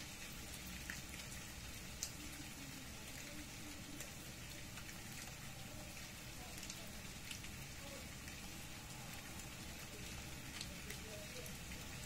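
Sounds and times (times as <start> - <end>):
rain falling on leaves: 0.0 - 12.0.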